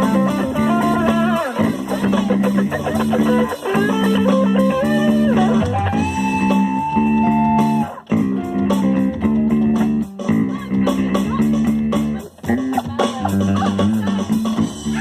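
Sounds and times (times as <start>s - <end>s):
chugging rhythm guitar and bass: 0.0s - 15.0s
lead guitar: 0.0s - 15.0s.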